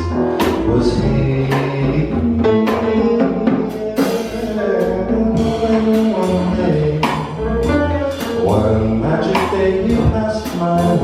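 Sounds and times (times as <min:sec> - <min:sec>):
jazz band playing: 0:00.0 - 0:11.0
sung vocals: 0:00.0 - 0:11.0.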